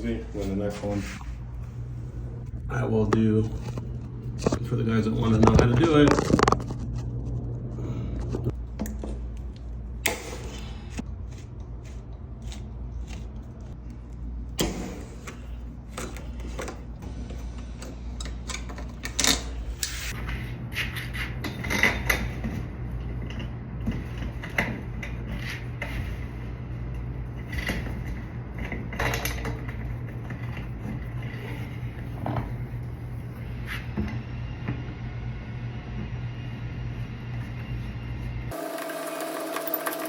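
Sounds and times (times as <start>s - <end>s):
steady low hum: 0.0s - 38.6s.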